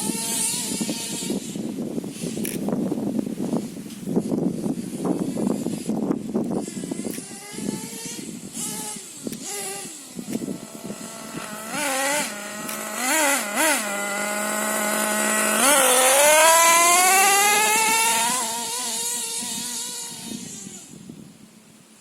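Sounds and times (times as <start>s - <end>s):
rc truck engine revving: 0.0s - 2.7s, 4.2s - 21.0s.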